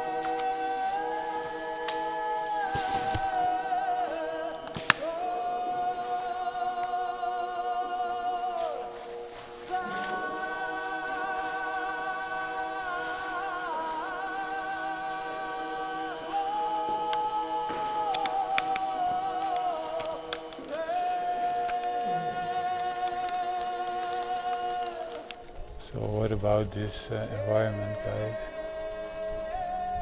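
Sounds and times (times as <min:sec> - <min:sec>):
choral chanting over drone: 0:00.0 - 0:30.0.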